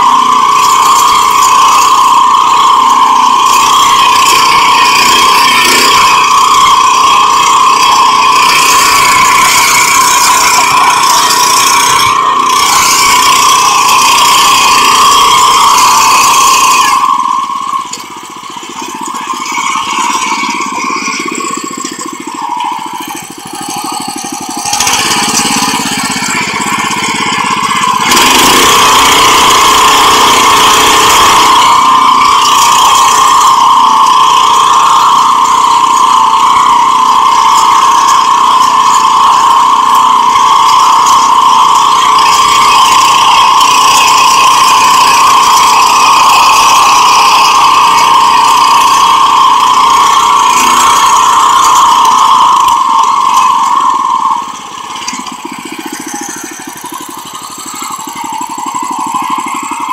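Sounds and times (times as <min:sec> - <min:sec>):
power weeder engine running: 0:00.0 - 0:59.9.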